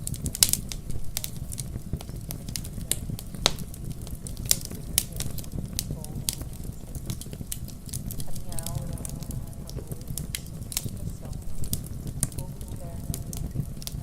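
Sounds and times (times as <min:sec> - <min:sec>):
low rumble: 0:00.0 - 0:14.0
wood fire crackling: 0:00.0 - 0:14.0.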